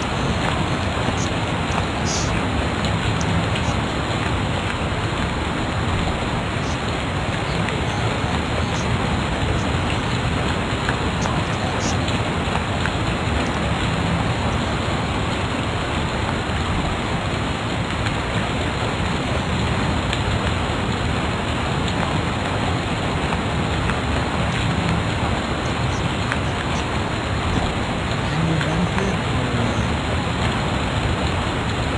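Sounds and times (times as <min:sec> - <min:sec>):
steady background hiss: 0:00.0 - 0:31.9.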